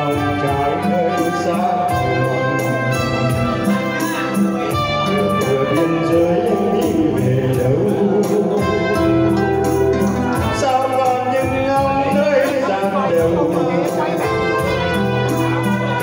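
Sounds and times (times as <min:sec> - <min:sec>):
acoustic guitar: 0:00.0 - 0:16.0
live band playing: 0:00.0 - 0:16.0.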